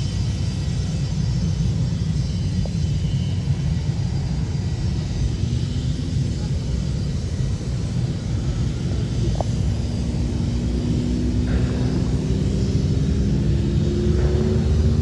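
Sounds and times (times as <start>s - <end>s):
aeroplane engine rumble: 0.0s - 15.0s.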